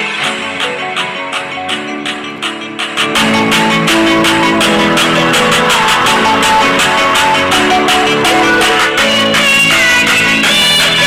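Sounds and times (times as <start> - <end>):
music through soundbar: 0.0 - 11.0.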